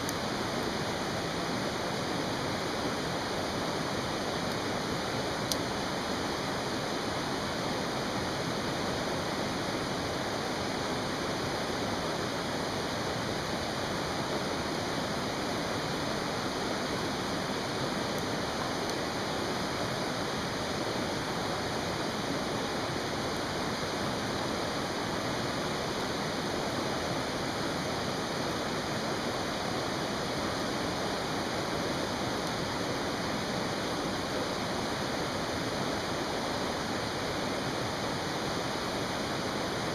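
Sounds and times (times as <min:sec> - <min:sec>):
campfire crackle: 0:00.0 - 0:39.9
mountain stream rushing: 0:00.0 - 0:39.9.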